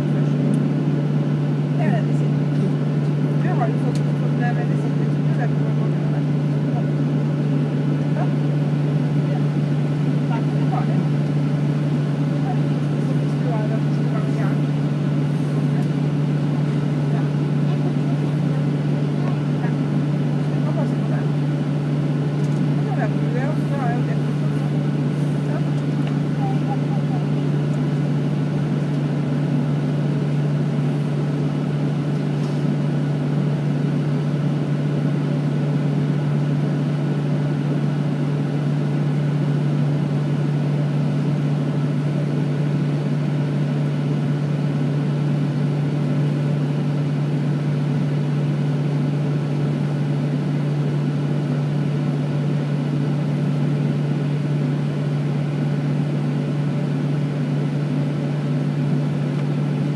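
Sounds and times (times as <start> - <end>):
aircraft ventilation hum: 0.0 - 59.9.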